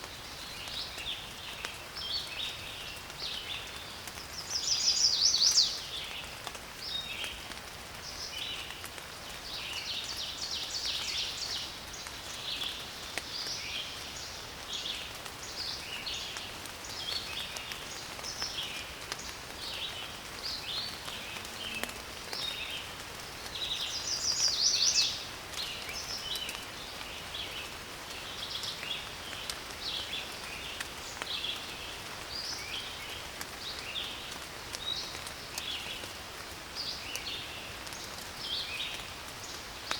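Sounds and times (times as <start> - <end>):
light rain hiss: 0.0 - 39.9
songbirds chirping and trilling: 0.0 - 39.9.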